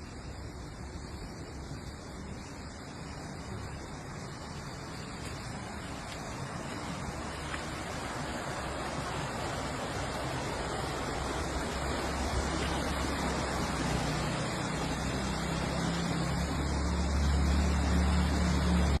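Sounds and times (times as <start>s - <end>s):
steady rushing noise: 0.0s - 19.0s
vehicle engine hum: 0.0s - 19.0s.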